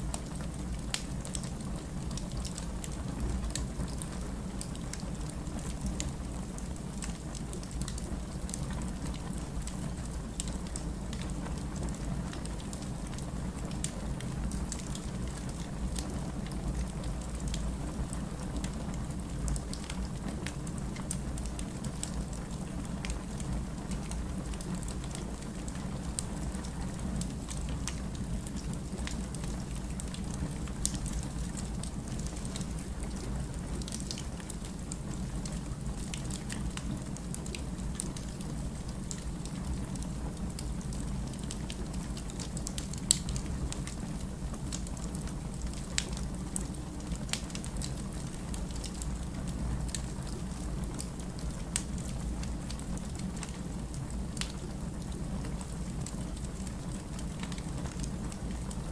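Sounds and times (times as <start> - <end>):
wood fire pops and crackles: 0.1 - 58.9.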